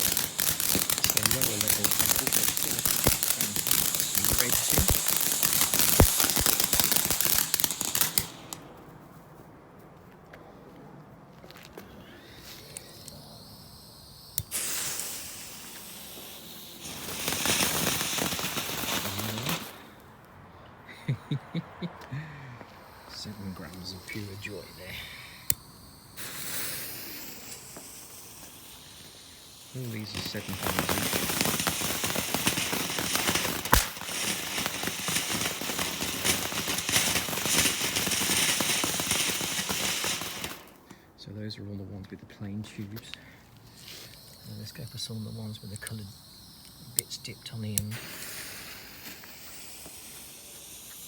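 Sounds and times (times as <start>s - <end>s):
crackling fountain firework: 0.0s - 8.8s, 11.5s - 20.2s, 20.9s - 41.6s, 42.4s - 51.0s
firework crack: 0.0s - 8.9s, 11.4s - 41.5s, 42.4s - 51.0s.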